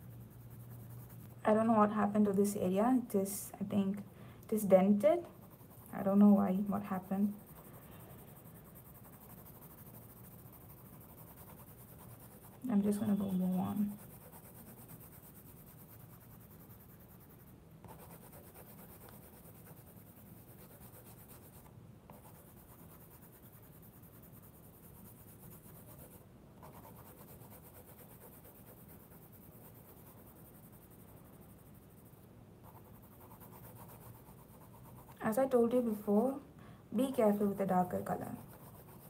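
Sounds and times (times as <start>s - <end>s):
colour pencil scratching on paper: 0.0s - 36.3s, 37.0s - 39.0s.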